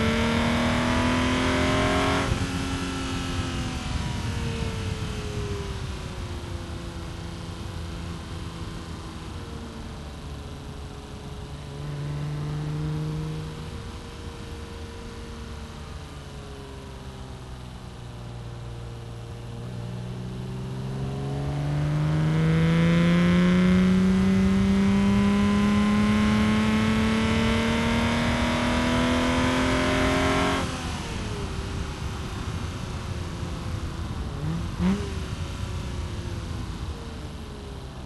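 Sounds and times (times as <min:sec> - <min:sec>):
car engine accelerating: 0:00.0 - 0:38.0.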